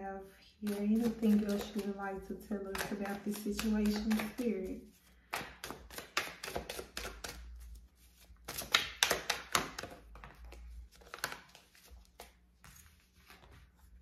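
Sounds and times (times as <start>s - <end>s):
cards being shuffled: 0.6s - 2.0s, 2.7s - 14.0s.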